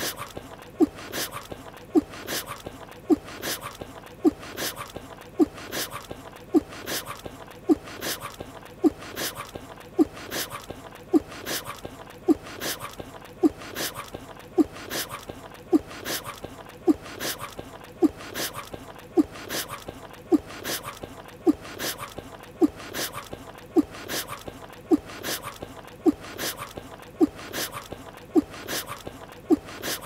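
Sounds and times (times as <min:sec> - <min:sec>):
mouth chewing with clicks and squeaks: 0:00.0 - 0:30.0.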